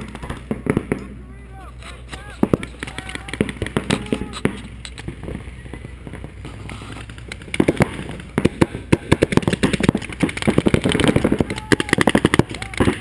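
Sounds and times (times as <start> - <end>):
paintball markers firing: 2.1 - 13.0.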